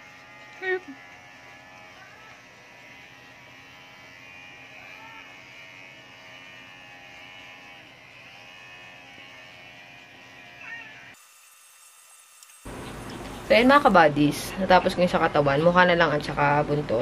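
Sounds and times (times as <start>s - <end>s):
electric hair clipper buzzing: 0.0s - 14.1s.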